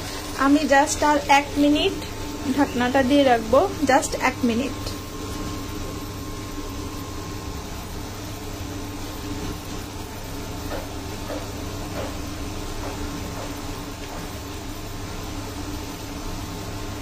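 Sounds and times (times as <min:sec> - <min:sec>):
induction cooktop whirring hum: 0:00.0 - 0:17.0.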